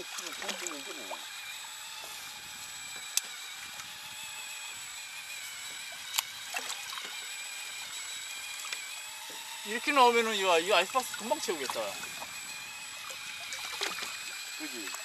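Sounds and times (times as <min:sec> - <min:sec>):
water lapping around a boat: 0:00.0 - 0:15.0.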